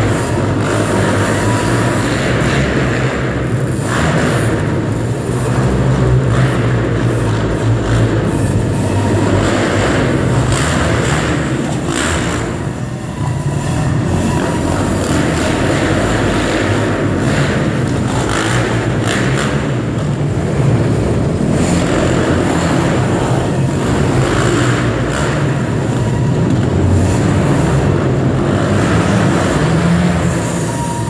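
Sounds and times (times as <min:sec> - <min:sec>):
quad engines revving: 0:00.0 - 0:31.0.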